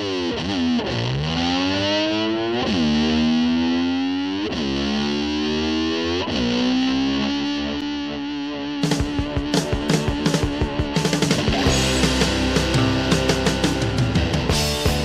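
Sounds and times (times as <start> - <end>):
distorted electric guitar slides: 0.0 - 15.0.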